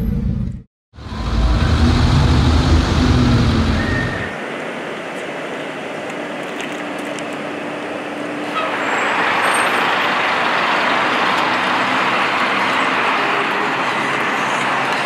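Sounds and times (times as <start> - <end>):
street traffic rushing: 0.0 - 15.0.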